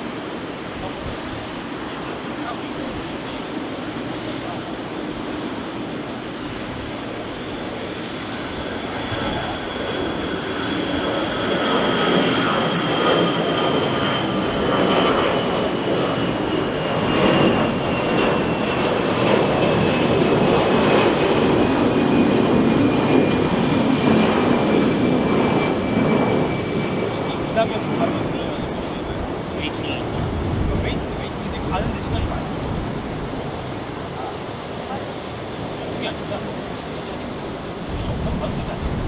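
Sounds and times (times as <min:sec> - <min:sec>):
high jet whine: 0:00.0 - 0:39.0
jet engines roaring at takeoff: 0:00.0 - 0:39.0.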